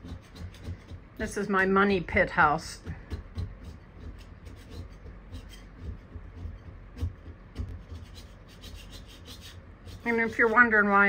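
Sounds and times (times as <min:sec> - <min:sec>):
scraper scraping wallpaper off wall: 0:00.0 - 0:01.8, 0:02.9 - 0:11.0.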